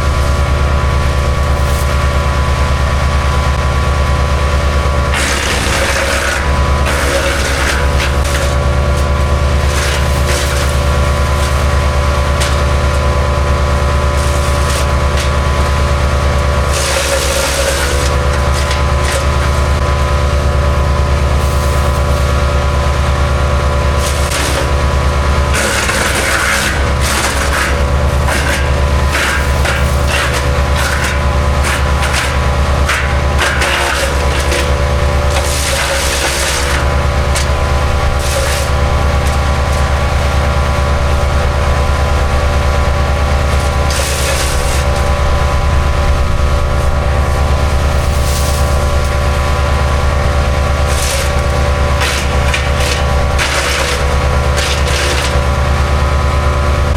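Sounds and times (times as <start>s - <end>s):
branches crackling in chipper: 0.0s - 56.9s
wood chipper engine running: 0.0s - 56.9s.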